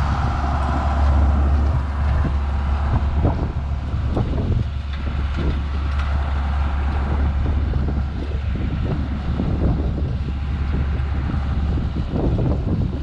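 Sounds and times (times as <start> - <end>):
tractor diesel engine droning: 0.0 - 13.0.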